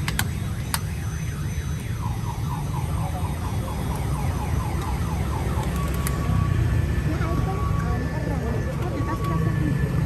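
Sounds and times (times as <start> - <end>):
low rumble of street noise: 0.0 - 10.0.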